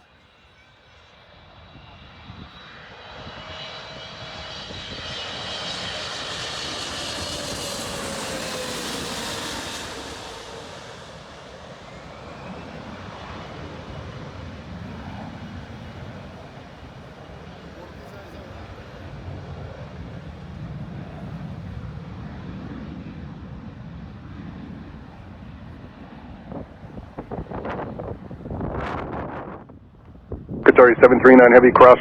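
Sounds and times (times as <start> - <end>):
jet airliner passing close: 0.3 - 32.0.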